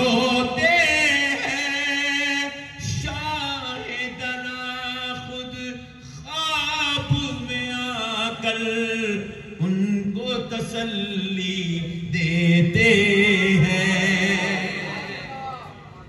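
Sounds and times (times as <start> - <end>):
man chanting melismatic verse: 0.0 - 16.0.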